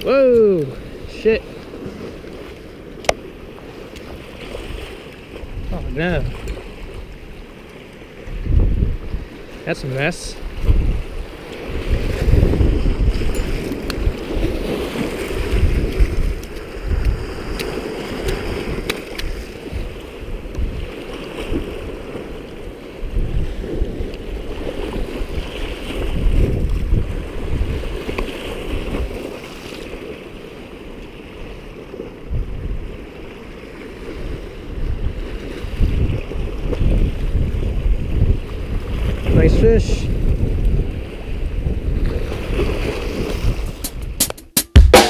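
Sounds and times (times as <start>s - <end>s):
wind buffeting microphone: 0.0s - 9.6s, 10.3s - 29.3s, 32.2s - 33.2s, 34.0s - 44.4s
waves washing against bank: 0.0s - 45.0s.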